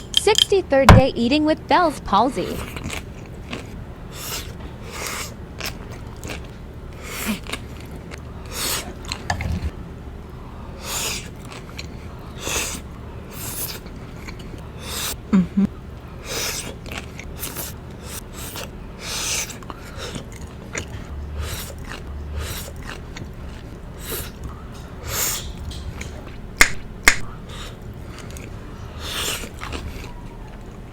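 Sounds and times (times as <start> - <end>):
crunching and chewing: 2.6 - 9.7, 10.8 - 15.2, 16.0 - 30.9.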